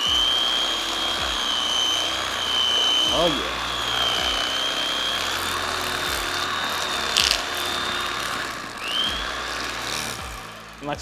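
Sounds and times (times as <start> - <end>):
electric knife buzzing: 0.0 - 11.0.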